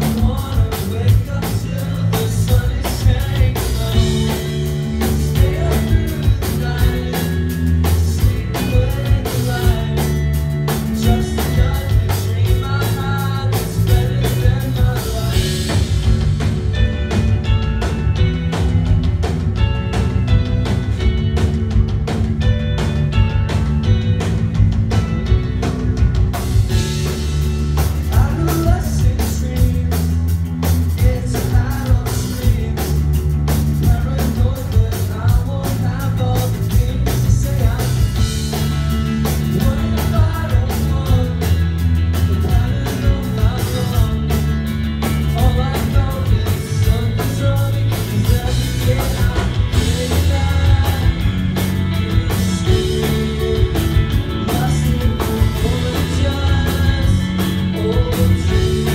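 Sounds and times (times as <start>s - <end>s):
man singing: 0.0s - 16.2s, 27.8s - 58.9s
bass guitar: 0.0s - 58.9s
drum kit: 0.0s - 58.9s
electric guitars: 0.0s - 58.9s.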